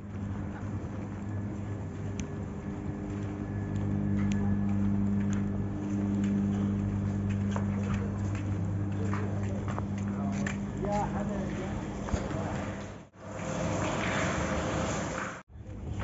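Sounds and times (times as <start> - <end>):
light footsteps: 0.0 - 13.1
low machine hum: 0.0 - 16.0.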